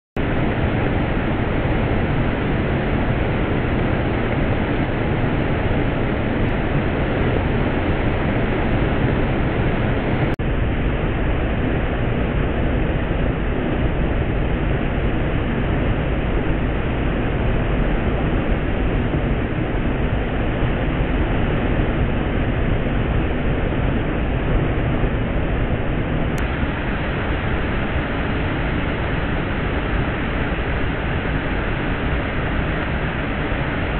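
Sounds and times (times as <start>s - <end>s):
water rushing over weir: 0.2s - 33.9s.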